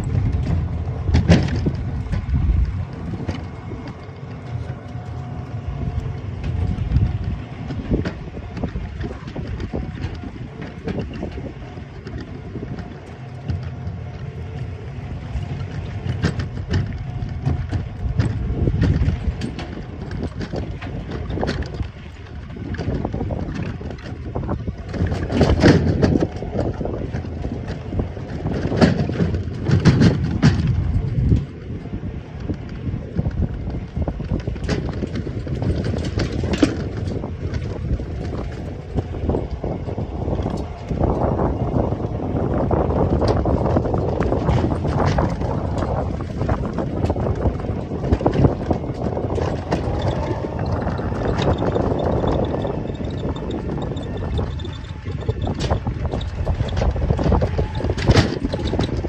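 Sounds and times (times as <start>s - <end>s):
low vehicle rumble: 0.0s - 59.0s
rattles and knocks: 0.0s - 59.0s
wind buffeting microphone: 0.0s - 59.0s.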